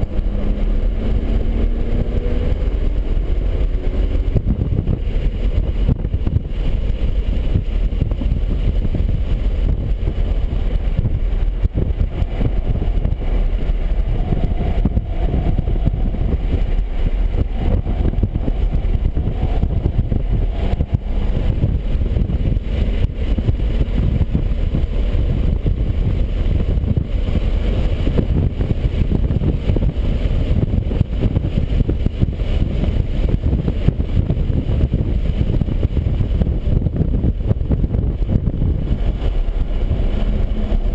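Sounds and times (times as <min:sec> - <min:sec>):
car engine driven hard: 0:00.0 - 0:40.9
road and wind noise: 0:00.0 - 0:40.9.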